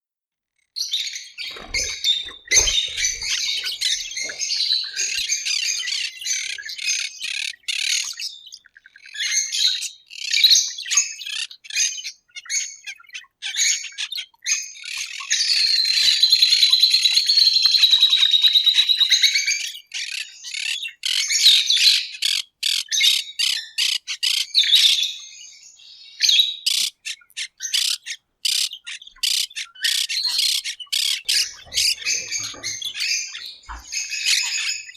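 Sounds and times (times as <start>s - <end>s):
parrots calling and chattering: 0.8s - 25.2s, 26.2s - 34.9s.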